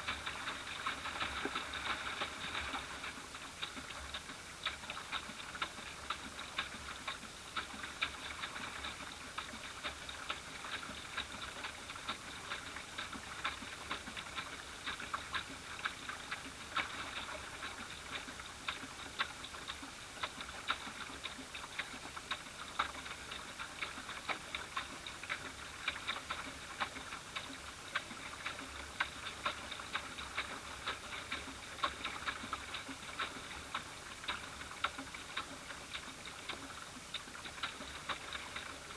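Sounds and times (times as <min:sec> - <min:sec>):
ripples lapping against boat hull: 0:00.0 - 0:38.9.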